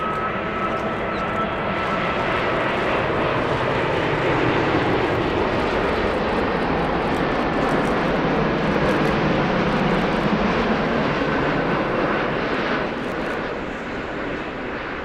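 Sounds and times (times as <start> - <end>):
jet airliner passing: 0.0 - 15.0.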